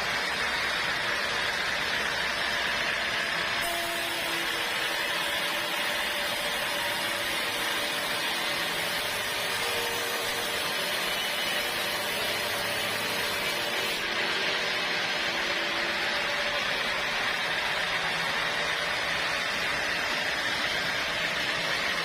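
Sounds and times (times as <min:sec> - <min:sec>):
saw machinery whirring: 0:00.0 - 0:22.0.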